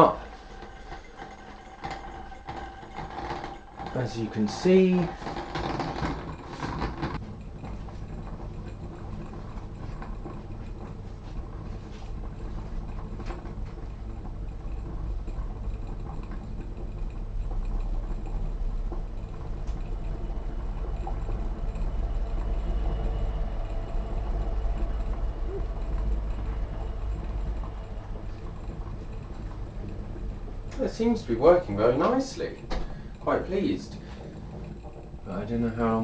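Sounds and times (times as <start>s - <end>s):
coffee maker water bubbling: 0.0s - 36.0s.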